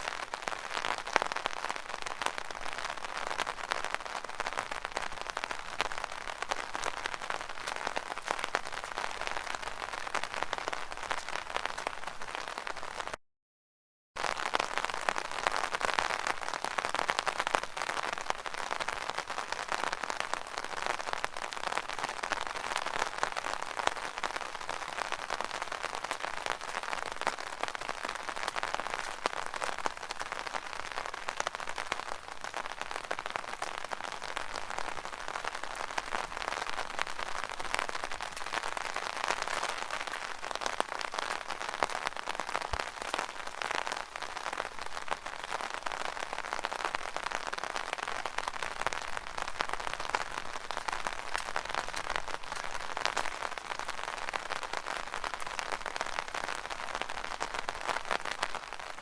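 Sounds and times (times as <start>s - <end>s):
rain on an umbrella: 0.0s - 13.2s, 14.2s - 59.0s.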